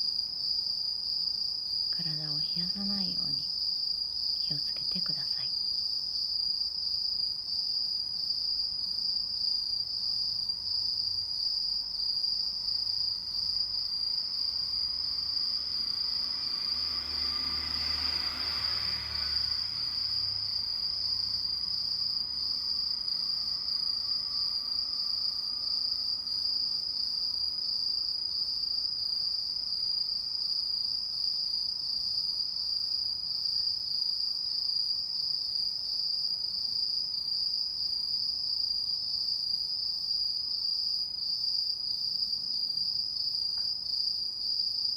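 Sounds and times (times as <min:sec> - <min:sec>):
insects trilling: 0:00.1 - 0:44.9.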